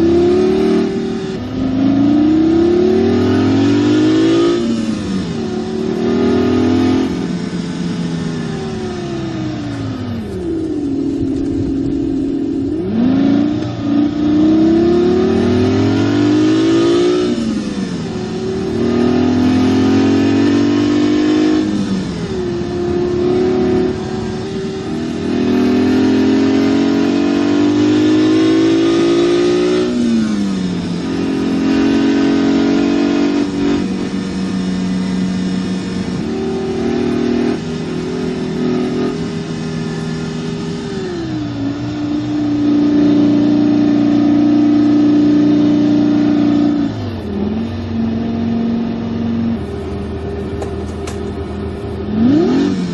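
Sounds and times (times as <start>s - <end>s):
simulated engine revving: 0.0s - 52.9s.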